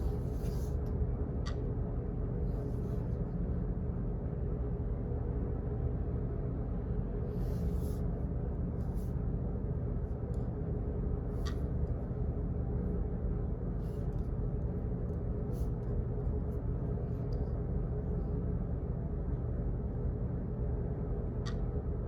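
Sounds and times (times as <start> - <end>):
low rumbling hum: 0.0 - 22.0.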